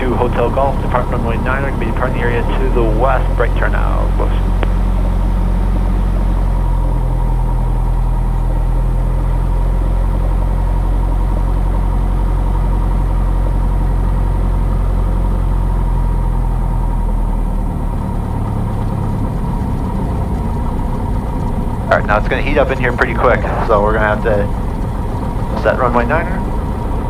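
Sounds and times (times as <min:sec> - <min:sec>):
aircraft engine and propeller running: 0:00.0 - 0:27.0.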